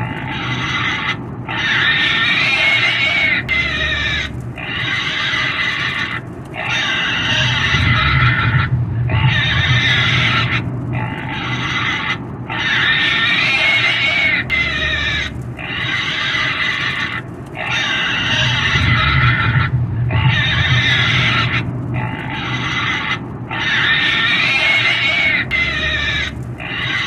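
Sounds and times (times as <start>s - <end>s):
pig squealing: 0.0s - 27.0s.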